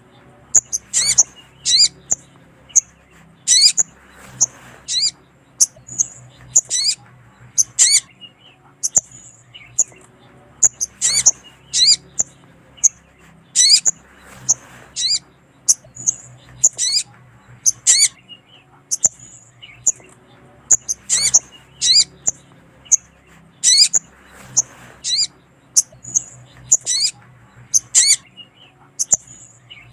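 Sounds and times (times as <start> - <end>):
bird chirping calls: 0.0 - 29.9.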